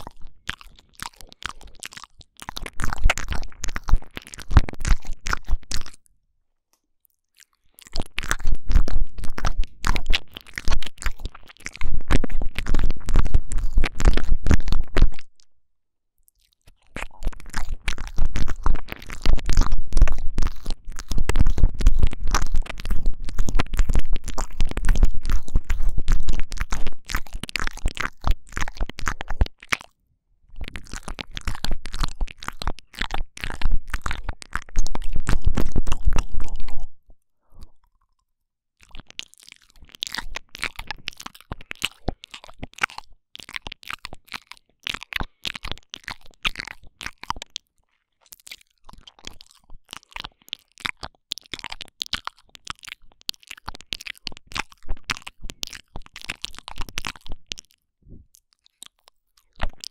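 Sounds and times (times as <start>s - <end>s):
wet mouth sounds: 0.0s - 6.1s, 6.8s - 15.5s, 16.2s - 59.9s.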